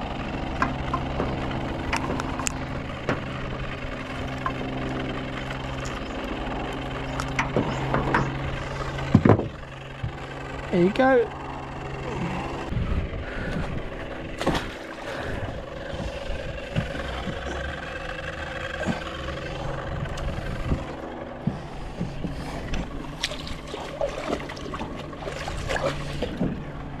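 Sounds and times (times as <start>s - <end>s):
small boat motor running: 0.0s - 27.0s
gear knocking and clattering: 0.3s - 10.7s, 13.6s - 27.0s.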